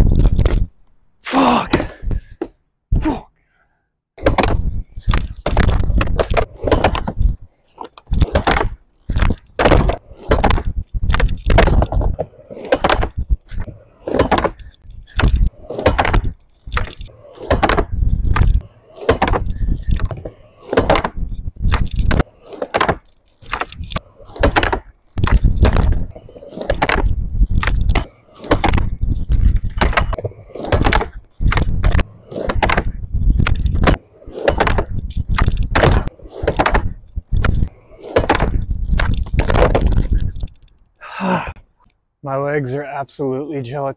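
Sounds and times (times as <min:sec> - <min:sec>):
skateboard clattering on wood: 0:04.2 - 0:40.4
skateboard tail clacking on coping: 0:04.2 - 0:40.4
skateboard wheels rolling on wood: 0:04.2 - 0:40.6.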